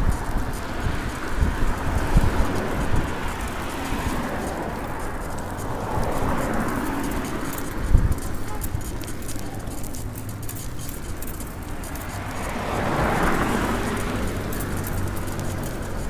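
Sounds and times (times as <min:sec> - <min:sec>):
road traffic: 0:00.0 - 0:16.0
vehicle passing: 0:00.0 - 0:16.0
wind rumble on microphone: 0:00.0 - 0:16.0.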